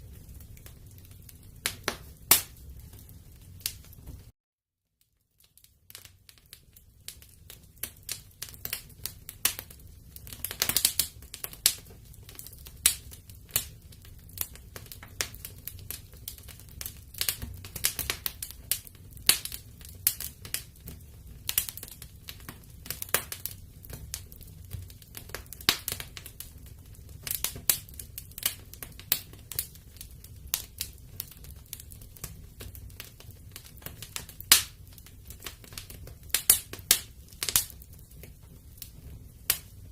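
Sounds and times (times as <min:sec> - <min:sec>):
low rumble of flames: 0:00.0 - 0:04.3, 0:05.4 - 0:39.9
wood fire crackling and popping: 0:00.0 - 0:04.3, 0:05.0 - 0:39.9.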